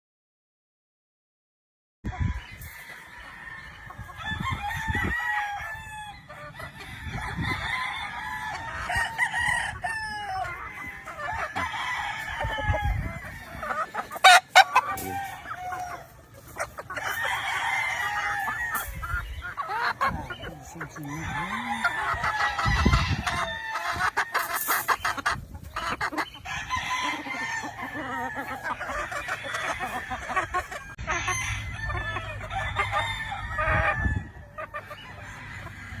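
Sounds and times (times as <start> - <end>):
chickens clucking: 2.1 - 36.0
roosters crowing: 2.1 - 36.0.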